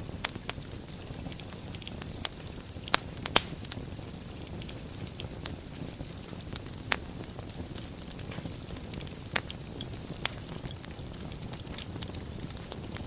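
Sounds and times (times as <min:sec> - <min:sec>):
fire pops: 0:00.0 - 0:13.0
wood fire crackling: 0:00.0 - 0:13.0.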